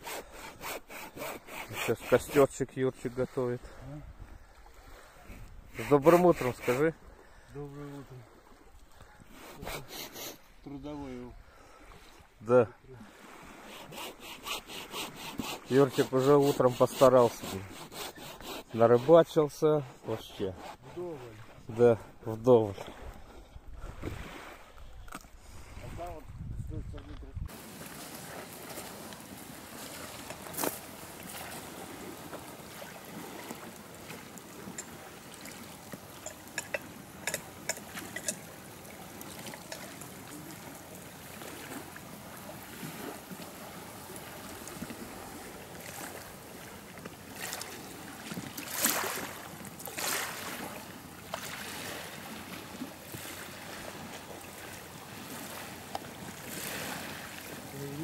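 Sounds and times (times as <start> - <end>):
water lapping: 0.0 - 26.3, 27.5 - 58.0
wind: 0.0 - 58.0.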